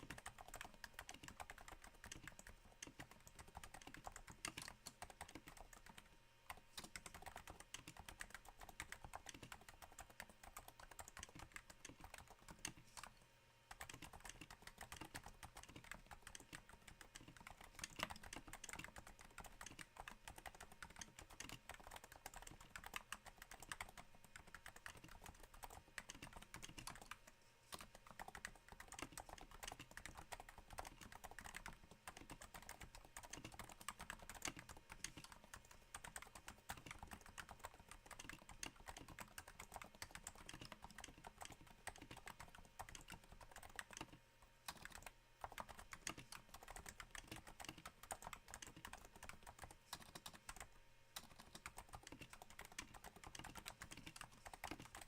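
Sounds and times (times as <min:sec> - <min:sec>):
quiet keyboard typing: 0:00.0 - 0:55.0.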